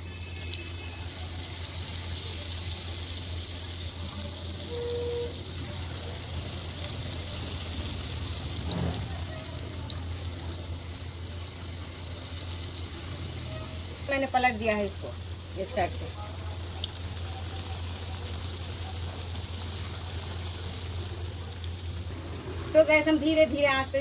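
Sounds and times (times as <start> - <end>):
batter sizzling in hot oil: 0.0 - 24.0.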